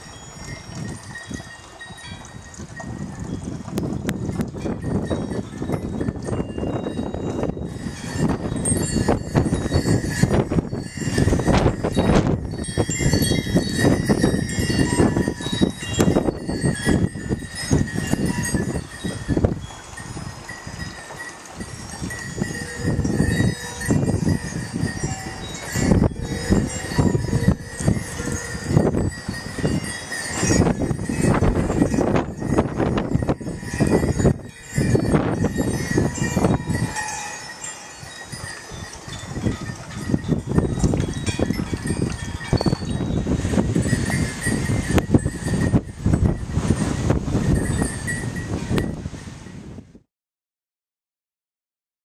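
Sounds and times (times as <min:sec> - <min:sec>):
gusty wind buffeting microphone: 0:00.0 - 0:50.1
high ringing tones: 0:04.6 - 0:49.0.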